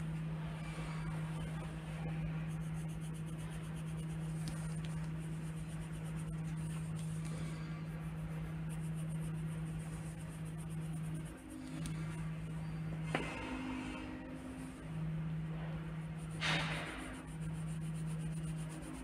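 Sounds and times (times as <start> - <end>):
steady low hum: 0.0 - 19.0
pencil scratching on paper: 0.6 - 15.0, 16.0 - 19.0.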